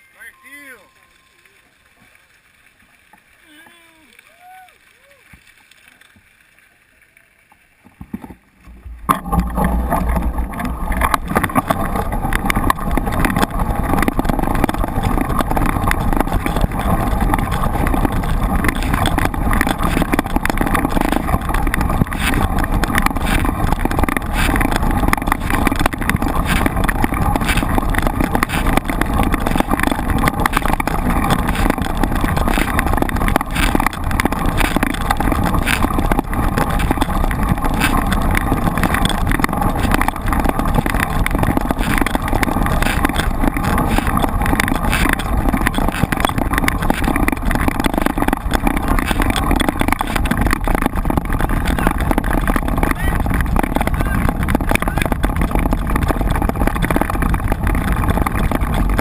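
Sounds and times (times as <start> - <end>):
bike trail rumble: 8.0 - 59.0
constant rattle: 8.0 - 59.0
wind buffeting camera: 8.2 - 59.0.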